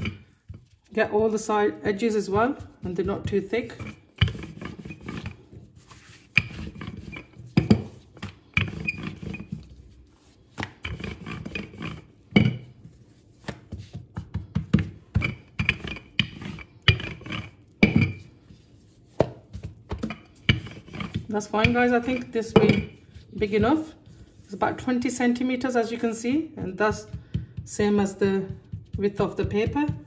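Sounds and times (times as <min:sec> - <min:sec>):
rolling pin rolling dough: 0:00.0 - 0:30.0.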